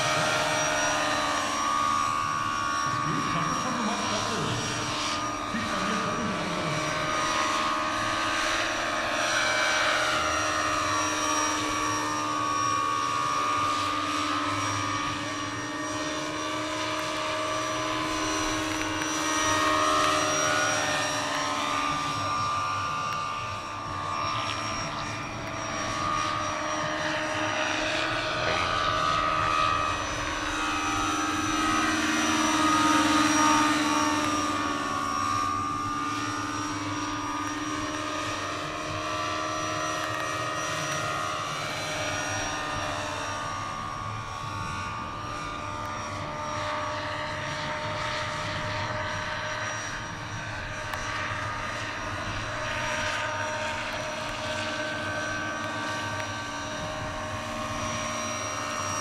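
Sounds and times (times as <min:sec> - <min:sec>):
model helicopter flying by: 0:00.0 - 0:59.0.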